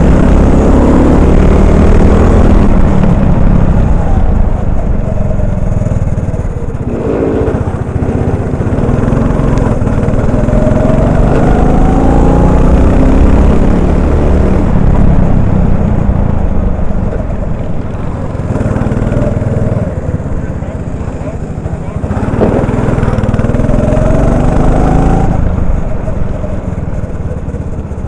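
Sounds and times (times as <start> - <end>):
kart engine accelerating: 0.0 - 28.0.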